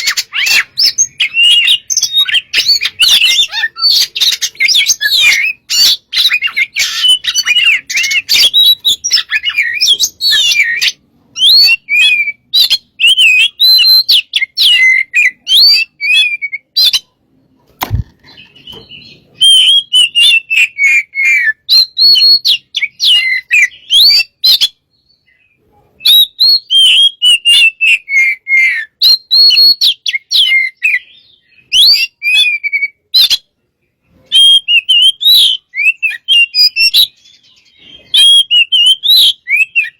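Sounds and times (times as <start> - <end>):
bird singing whistled phrases: 0.0 - 17.1, 18.4 - 33.4, 34.2 - 39.9.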